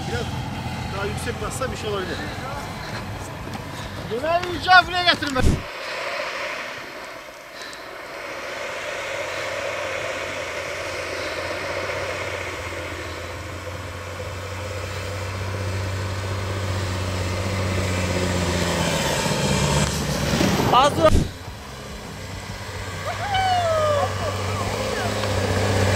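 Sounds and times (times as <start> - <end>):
truck engine running: 0.0 - 5.7, 6.4 - 25.9
tyres hissing through snow: 0.0 - 25.9.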